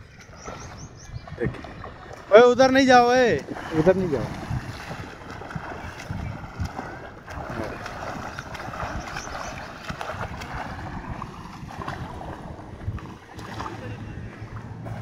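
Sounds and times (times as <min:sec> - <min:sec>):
children splashing in water: 0:00.0 - 0:15.0
wind on microphone: 0:00.0 - 0:15.0.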